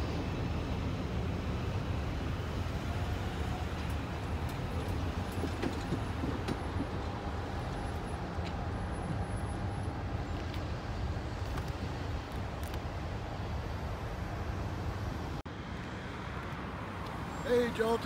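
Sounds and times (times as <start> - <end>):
vehicles driving over railroad crossing: 0.0 - 18.0.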